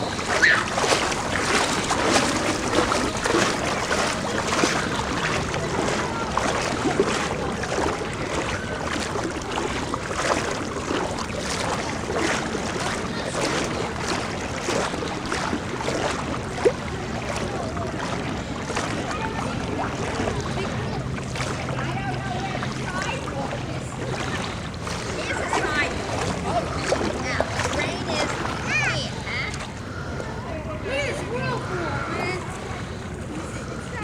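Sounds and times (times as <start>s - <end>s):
water sloshing and splashing: 0.0s - 34.0s.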